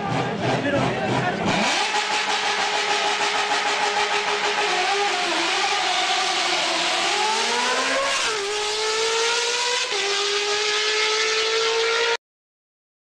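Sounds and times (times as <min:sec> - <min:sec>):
motorcycle engine shifting gears: 0:00.0 - 0:12.2.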